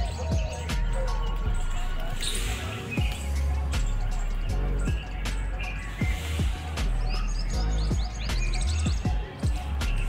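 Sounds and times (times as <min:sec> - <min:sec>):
high bird chirps: 0:00.0 - 0:10.0
music with deep bass beat: 0:00.0 - 0:10.0.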